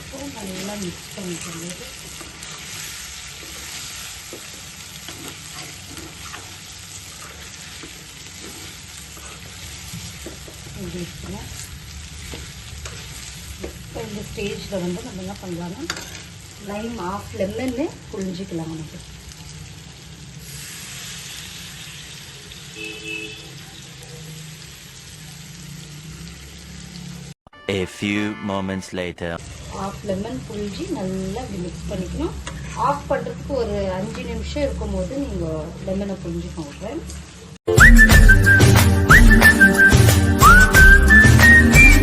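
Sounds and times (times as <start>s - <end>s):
chicken sizzling in oil: 0.0s - 27.4s, 29.5s - 37.6s.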